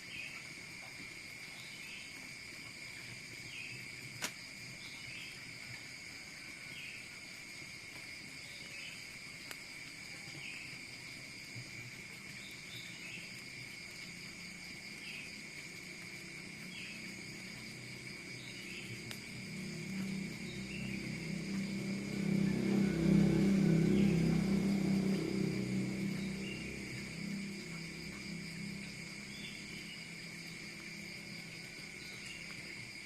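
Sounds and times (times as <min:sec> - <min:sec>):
insects trilling: 0:00.0 - 0:33.0.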